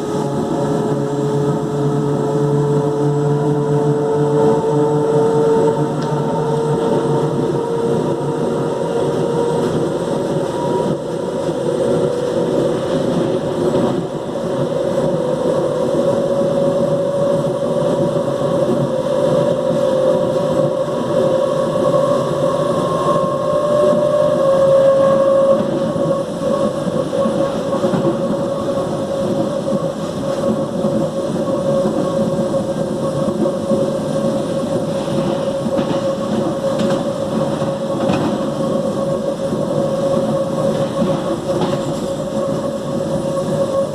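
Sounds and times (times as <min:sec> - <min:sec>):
electric train growling: 0:00.0 - 0:43.9.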